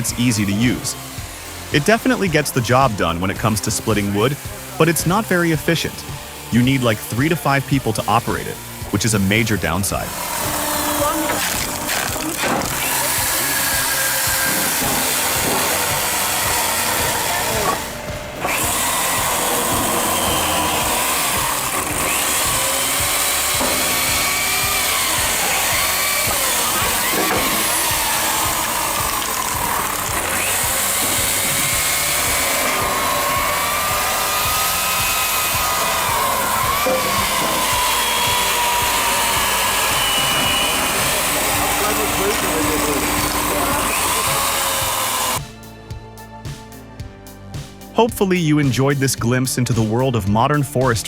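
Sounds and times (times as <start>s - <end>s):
machinery whining loudly: 0.0s - 45.6s.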